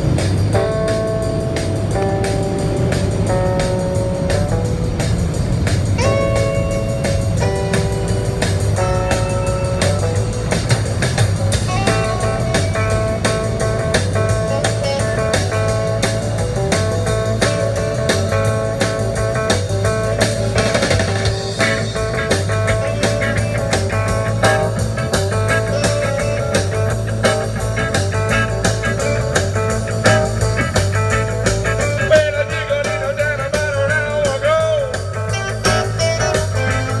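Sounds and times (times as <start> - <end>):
bending guitar lead line: 0.0 - 37.0
rock music with guitars: 0.0 - 37.0.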